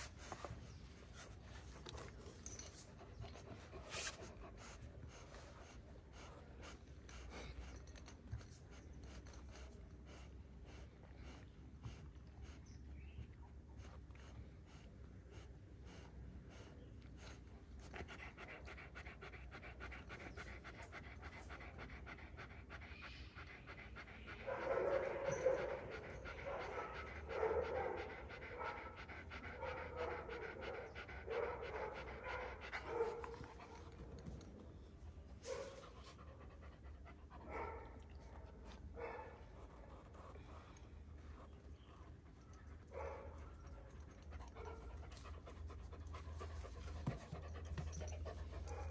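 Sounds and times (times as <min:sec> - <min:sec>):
dog panting rapidly: 0:02.8 - 0:12.7, 0:13.8 - 0:34.0, 0:35.5 - 0:48.9.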